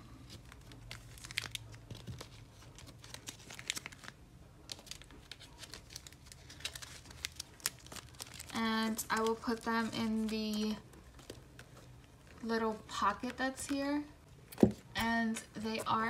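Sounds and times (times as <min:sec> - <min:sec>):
plastic sleeve crinkling: 0:00.1 - 0:15.0.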